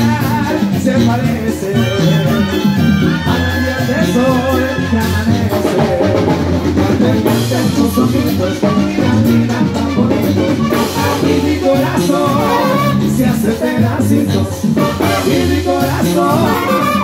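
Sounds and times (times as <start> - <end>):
drums and percussion: 0.0 - 17.0
sousaphone bass line: 0.0 - 17.0
trumpets trombones and clarinets: 0.0 - 17.0.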